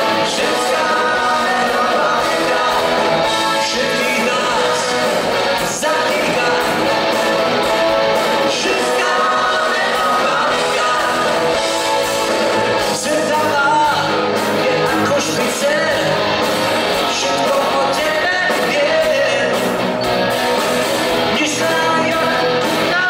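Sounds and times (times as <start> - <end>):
lead vocal singing: 0.0 - 23.0
live pop-rock band playing: 0.0 - 23.0.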